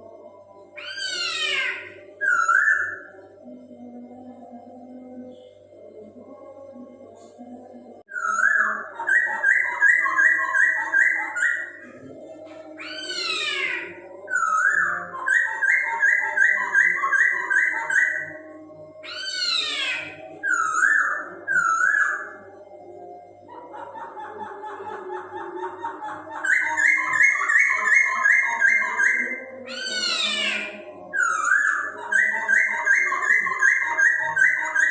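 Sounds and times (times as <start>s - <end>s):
laughingthrush singing loudly: 0.0s - 3.8s, 8.1s - 34.9s.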